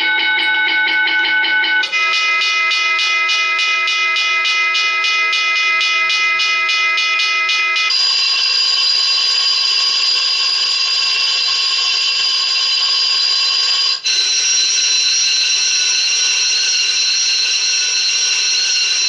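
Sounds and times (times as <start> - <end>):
electronic school bell tone: 0.0 - 19.0.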